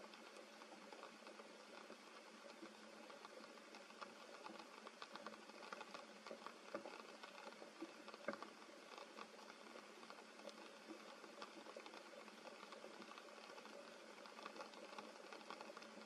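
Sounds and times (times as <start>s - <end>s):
rain on leaves: 0.1s - 16.0s.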